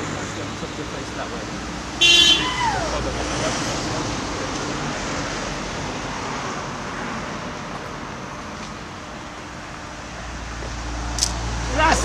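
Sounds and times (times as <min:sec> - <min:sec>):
road traffic rushing hiss: 0:00.0 - 0:12.0.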